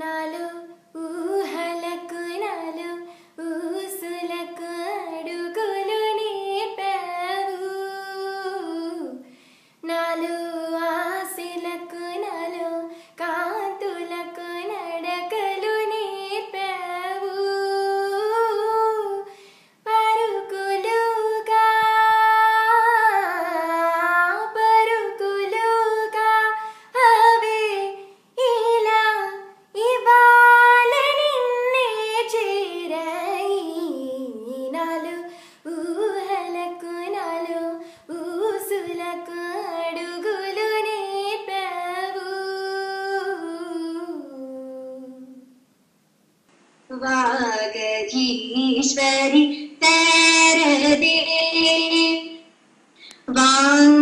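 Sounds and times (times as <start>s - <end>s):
girl singing unaccompanied: 0.0s - 45.6s, 48.1s - 52.5s, 53.1s - 54.0s.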